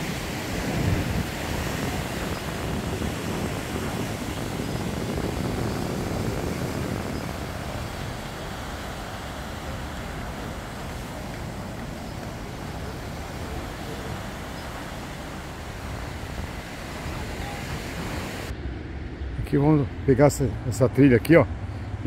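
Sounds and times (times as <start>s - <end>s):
surf breaking on rocks: 0.0s - 18.5s
wind on microphone: 0.0s - 19.5s.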